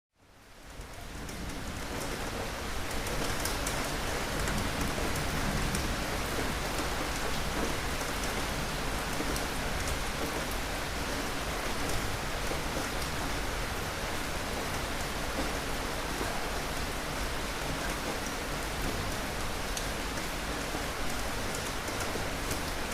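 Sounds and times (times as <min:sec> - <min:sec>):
heavy rain falling: 0:00.3 - 0:22.9
patter of raindrops: 0:00.3 - 0:22.9.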